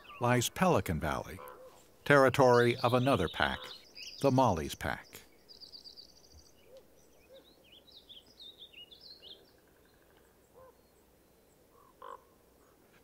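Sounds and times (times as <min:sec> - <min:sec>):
faint bird chirping: 0:00.0 - 0:13.0
quiet outdoor ambience: 0:00.0 - 0:13.0.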